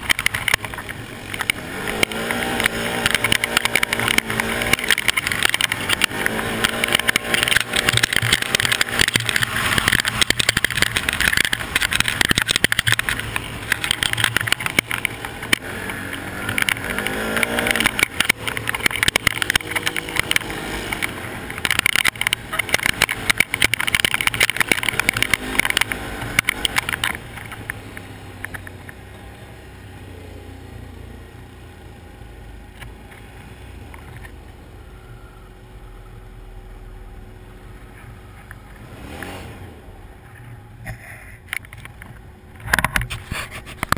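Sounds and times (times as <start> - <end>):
quad engine: 0.0 - 43.9.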